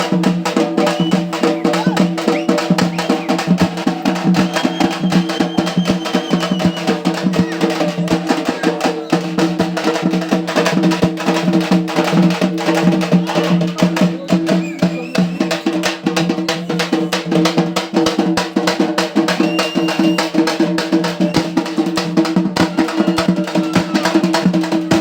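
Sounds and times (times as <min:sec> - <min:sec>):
fast dense drumming: 0:00.0 - 0:25.0.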